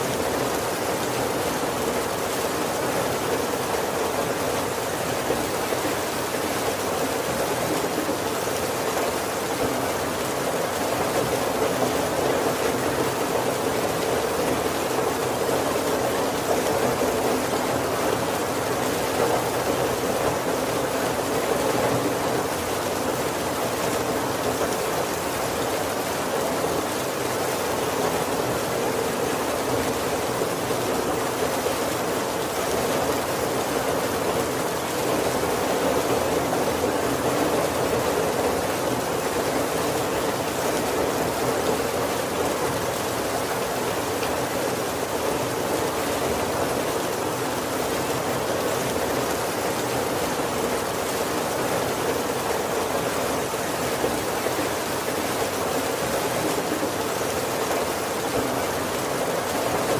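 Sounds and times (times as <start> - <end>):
heavy rain on wooden roof: 0.0 - 59.9.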